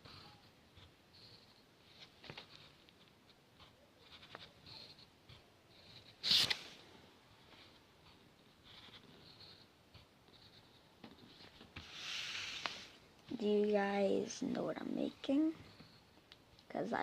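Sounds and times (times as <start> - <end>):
pencil scratching on paper: 0.0 - 6.6, 7.4 - 13.7, 15.5 - 16.2.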